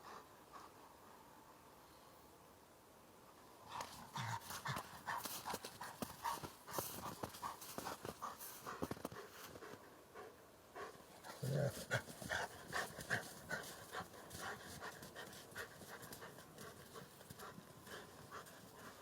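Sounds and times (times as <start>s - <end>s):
dog panting: 3.7s - 19.0s.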